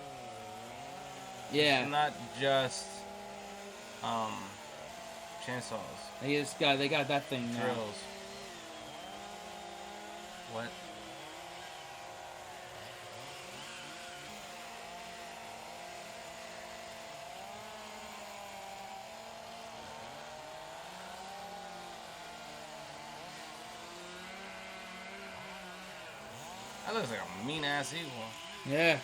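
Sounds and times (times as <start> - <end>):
chainsaws carving wood: 0.0 - 29.0.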